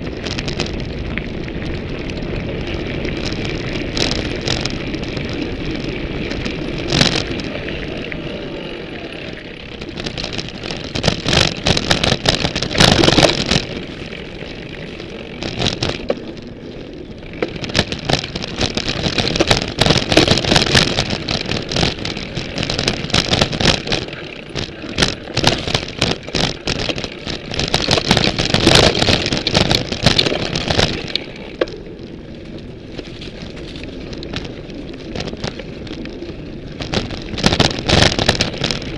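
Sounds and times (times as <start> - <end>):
bike rattling and clattering: 0.0 - 38.9
rush of tyres and wind: 0.0 - 38.9.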